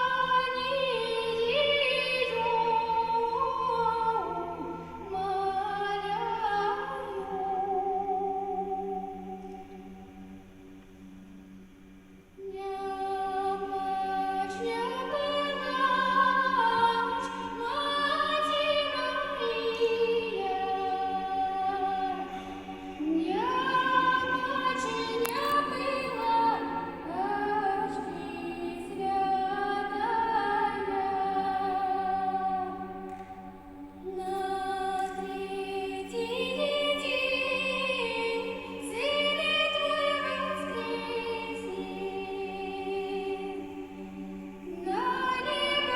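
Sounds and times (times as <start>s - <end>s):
choir singing a cappella: 0.0s - 45.9s.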